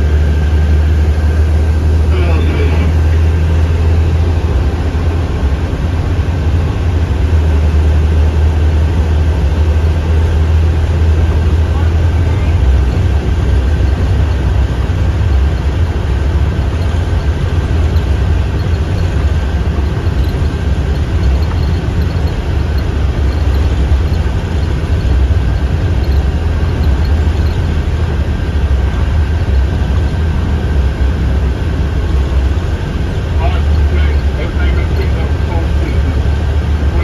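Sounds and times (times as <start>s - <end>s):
faint high whine: 0.0s - 4.8s, 11.2s - 37.0s
bus engine drone: 0.0s - 37.0s
road and tyre noise: 0.0s - 37.0s.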